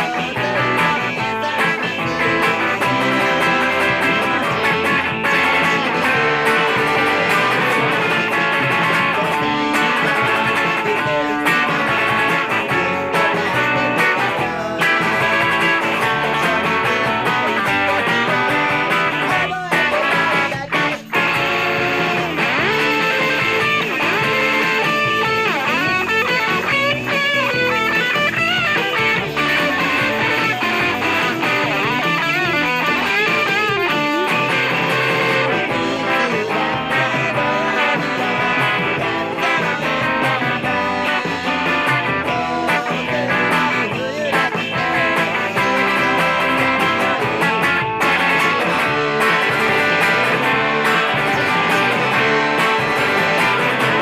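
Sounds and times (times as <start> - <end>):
electric guitar lead: 0.0 - 54.0
rock band playing: 0.0 - 54.0.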